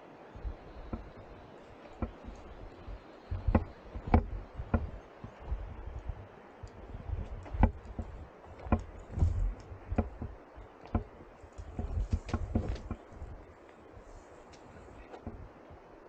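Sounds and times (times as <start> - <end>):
low rumbling bursts: 0.0 - 16.0
sharp knocks and clicks: 0.4 - 13.5, 14.5 - 15.6.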